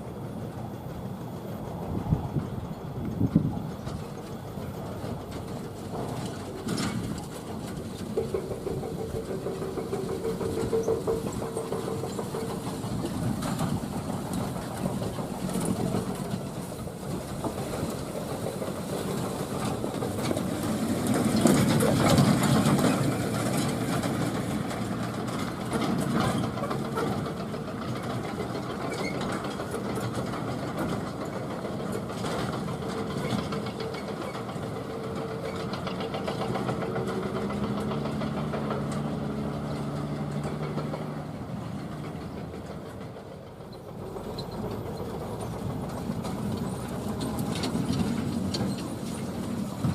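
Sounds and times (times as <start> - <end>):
truck engines droning: 0.0 - 49.9.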